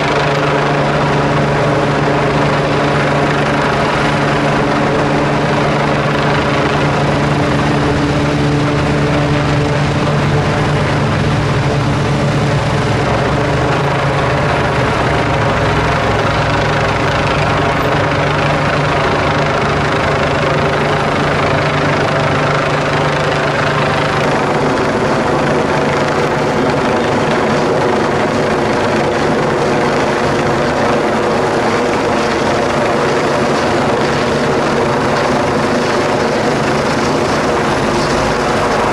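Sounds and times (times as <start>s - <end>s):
helicopter hovering: 0.0s - 38.9s
low hum: 0.0s - 38.9s.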